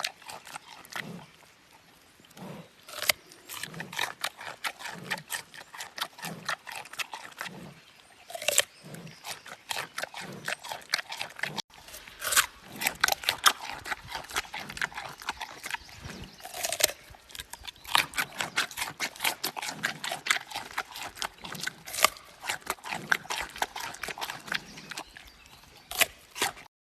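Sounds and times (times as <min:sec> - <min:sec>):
low chewing thuds: 0:00.0 - 0:26.7.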